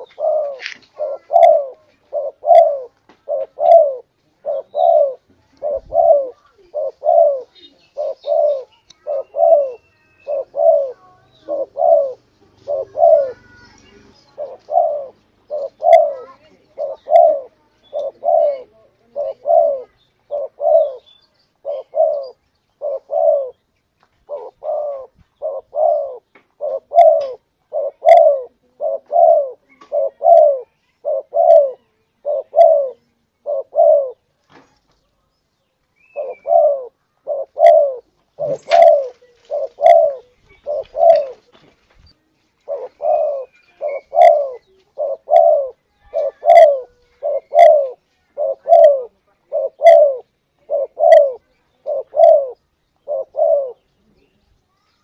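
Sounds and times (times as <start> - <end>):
dove cooing: 0.0 - 34.3, 36.0 - 41.7, 42.6 - 54.3.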